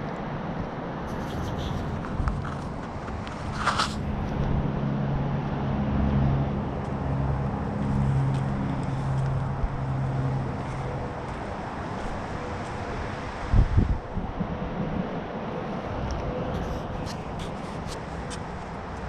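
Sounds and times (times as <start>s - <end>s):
outdoor background noise: 0.0s - 19.0s
vehicle engine humming: 0.0s - 19.0s.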